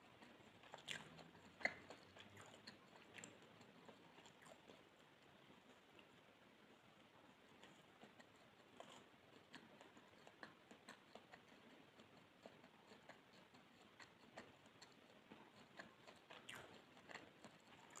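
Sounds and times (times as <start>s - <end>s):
chewing with wet mouth clicks: 0.0s - 6.3s, 6.9s - 18.0s.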